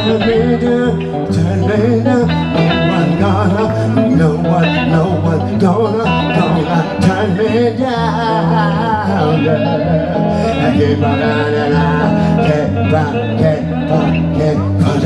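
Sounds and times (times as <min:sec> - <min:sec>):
acoustic guitars playing blues: 0:00.0 - 0:15.0
man singing: 0:00.0 - 0:15.0.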